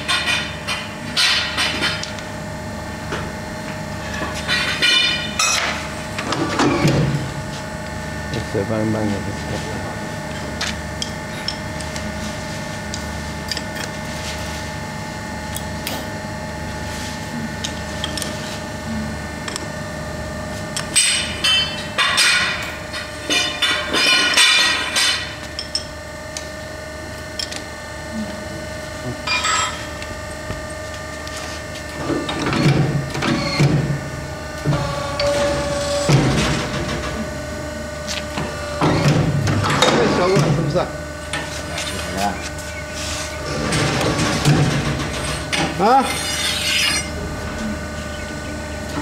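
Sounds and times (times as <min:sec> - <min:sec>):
pipe bending machine humming: 0:00.0 - 0:49.0.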